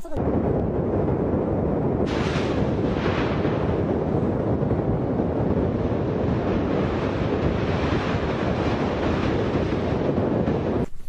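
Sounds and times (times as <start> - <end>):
volcanic vent roaring: 0.0 - 10.8
wind on microphone: 0.0 - 11.0.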